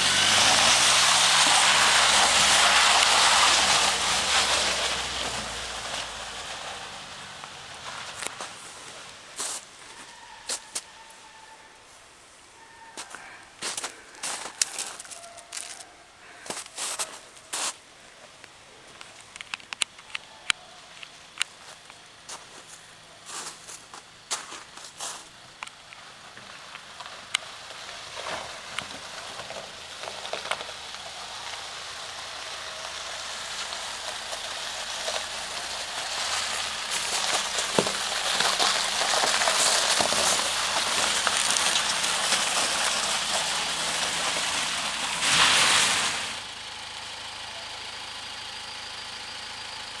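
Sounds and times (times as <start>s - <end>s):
tyres crunching over icy slush: 0.0s - 10.9s, 13.0s - 17.8s, 21.5s - 49.8s
low tyre hiss: 0.0s - 12.6s, 20.0s - 50.0s.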